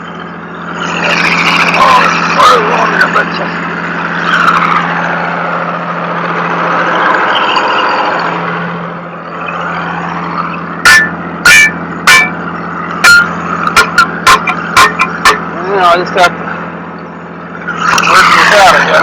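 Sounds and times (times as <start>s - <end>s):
broad noise: 0.0s - 19.0s
vehicle engine humming: 0.0s - 19.0s.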